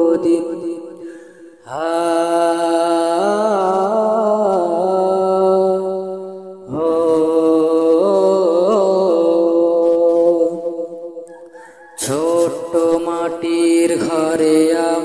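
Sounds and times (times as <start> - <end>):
man singing wordless held notes: 0.0 - 15.0.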